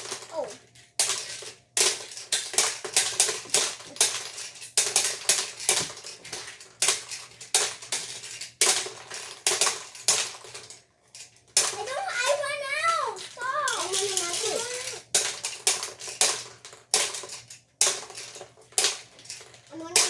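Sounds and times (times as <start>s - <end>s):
small hard objects clattering: 0.0s - 20.0s.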